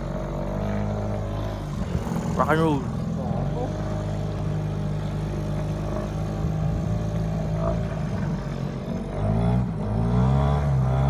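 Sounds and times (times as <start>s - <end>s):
motorboat engine revving: 0.0s - 11.0s.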